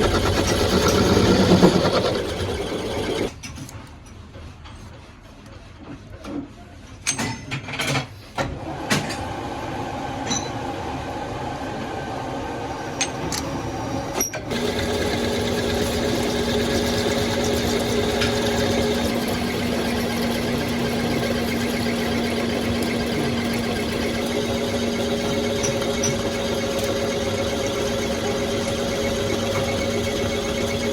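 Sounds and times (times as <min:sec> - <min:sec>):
metalworking machine hum: 0:00.0 - 0:03.4, 0:08.6 - 0:30.9.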